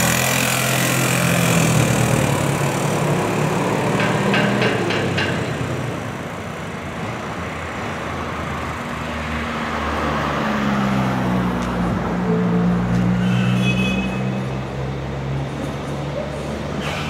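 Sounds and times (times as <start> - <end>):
steady road noise: 0.0 - 17.0.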